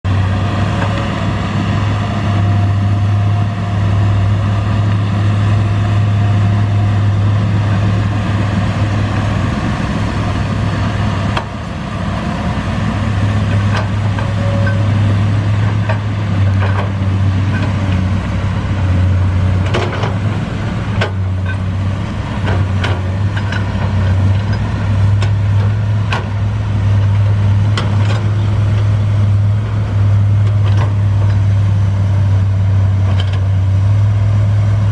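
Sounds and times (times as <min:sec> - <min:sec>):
excavator diesel engine drone: 0:00.0 - 0:34.9.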